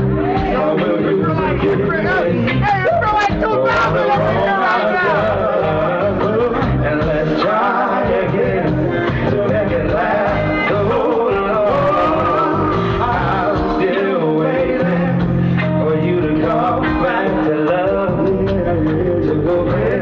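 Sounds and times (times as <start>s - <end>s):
drums: 0.0s - 20.0s
live band playing: 0.0s - 20.0s
man singing into microphone: 0.1s - 20.0s.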